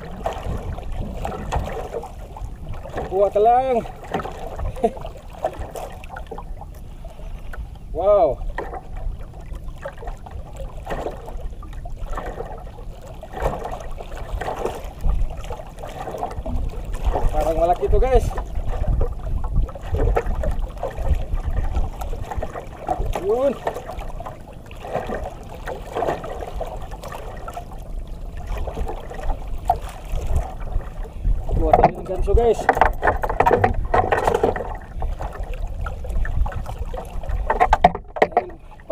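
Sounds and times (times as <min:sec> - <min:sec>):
water lapping against boat hull: 0:00.0 - 0:38.9.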